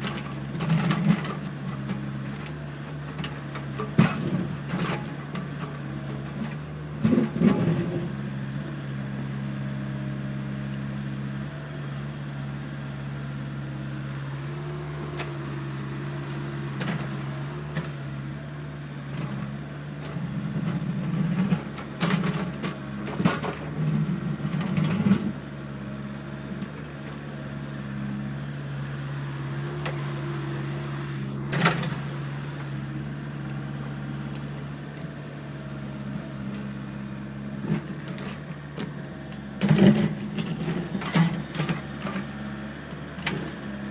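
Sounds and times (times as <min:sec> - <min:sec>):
diesel engine running at low revs: 0:00.0 - 0:43.9.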